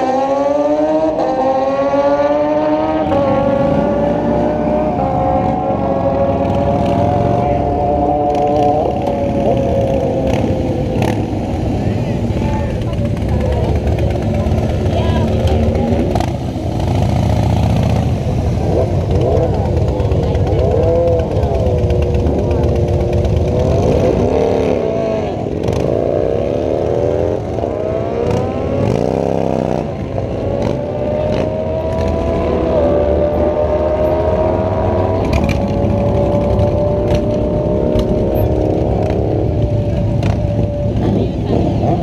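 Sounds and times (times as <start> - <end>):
drag racing engines revving: 0.0 - 42.0.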